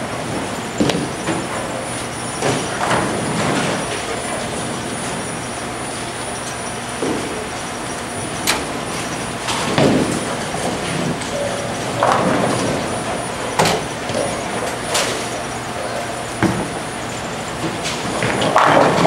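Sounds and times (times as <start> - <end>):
bowling balls rolling: 0.0 - 19.0
bowling pins clattering: 0.2 - 5.3, 8.3 - 19.0.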